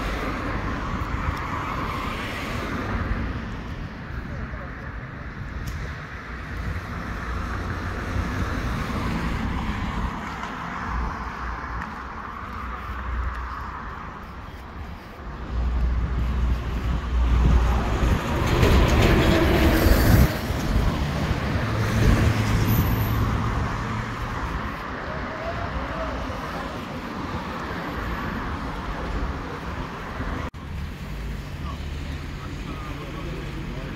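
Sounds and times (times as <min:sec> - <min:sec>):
cars passing: 0:00.0 - 0:33.9.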